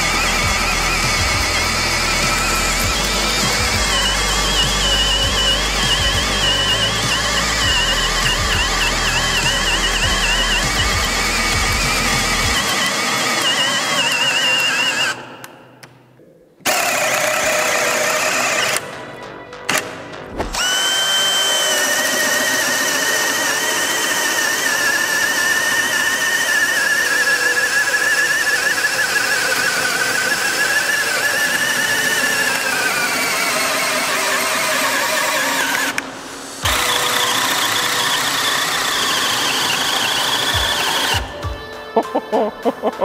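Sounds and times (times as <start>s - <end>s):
hammer drill boring into wood: 0.0s - 15.6s, 16.6s - 19.0s, 20.5s - 41.4s.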